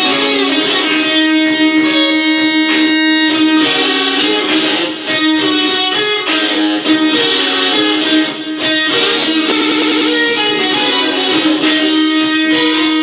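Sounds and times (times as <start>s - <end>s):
electric guitar playing blues: 0.0s - 13.0s.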